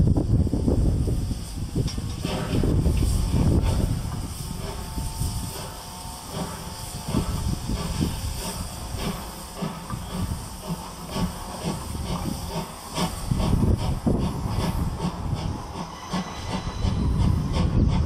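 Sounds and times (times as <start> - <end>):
steam hissing: 0.0 - 18.0
steam locomotive chuffing: 0.0 - 18.0
train rumbling: 0.0 - 18.0.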